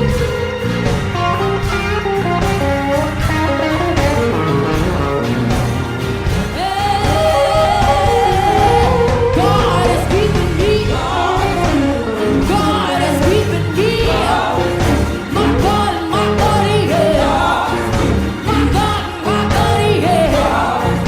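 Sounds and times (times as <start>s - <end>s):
band with steady bass: 0.0s - 21.0s
voices singing held notes: 0.0s - 21.0s.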